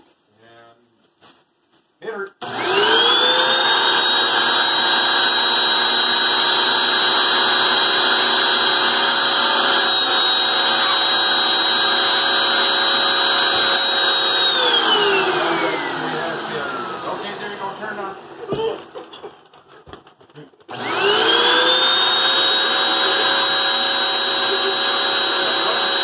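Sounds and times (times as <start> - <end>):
vacuum cleaner motor whine: 2.4 - 19.0, 20.7 - 26.0.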